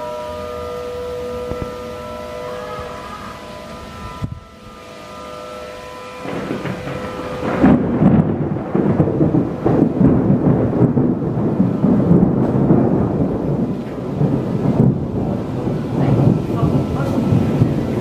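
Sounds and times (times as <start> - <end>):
outdoor warning siren: 0.0 - 18.0
rain: 0.0 - 18.0
rolling thunder: 0.0 - 18.0.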